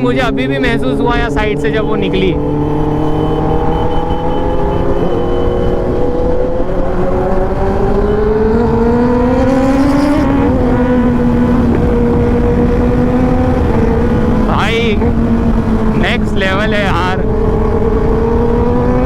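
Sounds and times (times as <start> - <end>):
low wind rumble: 0.0 - 19.0
motorcycle engine: 0.0 - 19.0.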